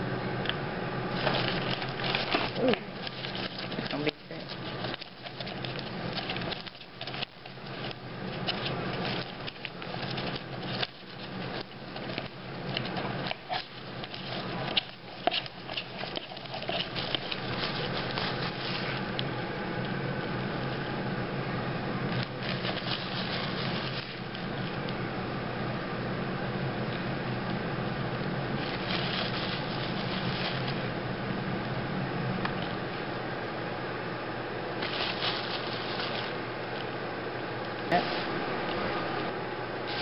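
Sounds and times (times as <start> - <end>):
microwave oven humming: 0.0 - 40.0.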